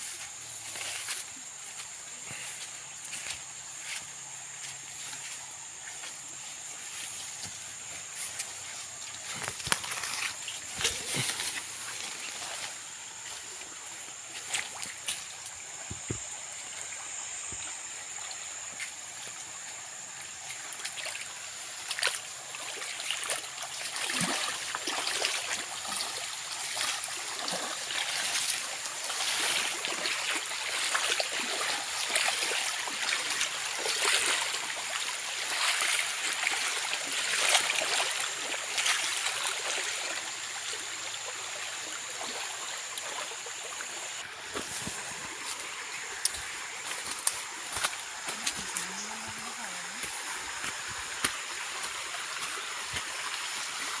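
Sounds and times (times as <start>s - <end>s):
stream flowing and trickling: 0.0s - 54.0s.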